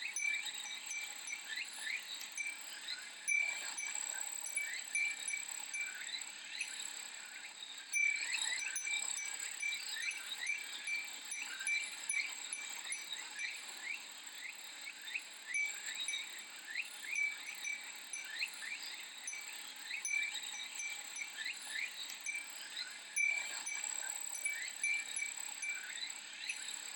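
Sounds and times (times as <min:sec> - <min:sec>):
wind chime tinkling: 0:00.0 - 0:06.9, 0:07.9 - 0:14.0, 0:15.4 - 0:26.9
cicadas chirring: 0:00.0 - 0:26.8.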